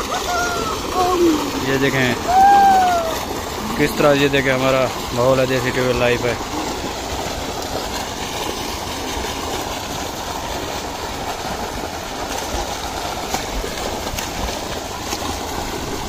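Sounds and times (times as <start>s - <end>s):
people splashing in water: 0.0s - 16.0s
water gushing into tank: 0.0s - 16.0s.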